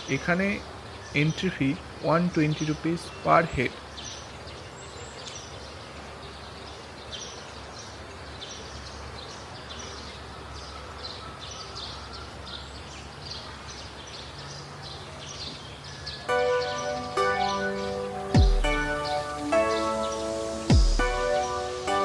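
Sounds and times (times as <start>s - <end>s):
birds chirping: 0.0s - 22.0s
outdoor background noise: 0.0s - 22.0s.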